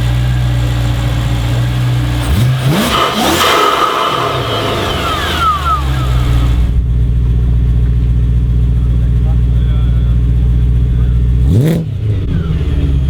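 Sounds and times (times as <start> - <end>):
car engine idling and revving: 0.0 - 13.0
supercharger whine: 0.0 - 13.0.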